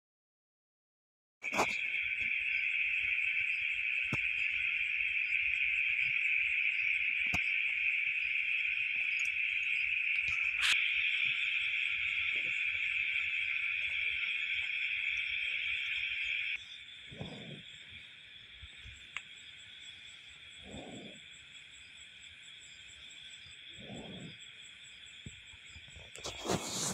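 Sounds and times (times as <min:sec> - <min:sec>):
crickets chirping: 0:01.4 - 0:26.9.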